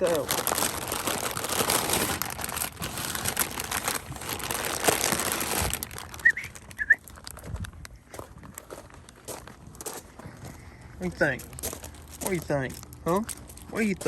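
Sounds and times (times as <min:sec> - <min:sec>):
crinkling and rustling: 0:00.0 - 0:09.8, 0:11.3 - 0:14.0.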